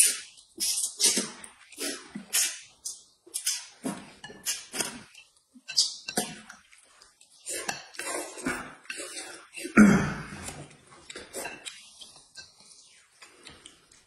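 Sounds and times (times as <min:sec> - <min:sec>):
noodles being slurped: 0:00.0 - 0:14.0.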